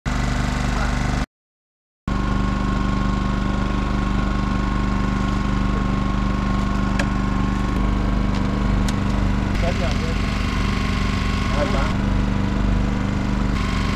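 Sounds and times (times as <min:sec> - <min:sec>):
boat engine idling: 0:02.3 - 0:13.9.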